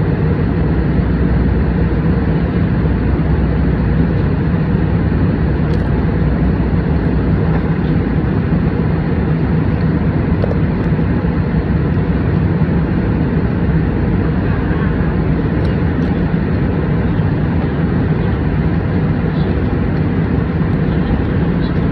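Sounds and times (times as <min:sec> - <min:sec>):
airliner cabin drone: 0:00.0 - 0:21.9.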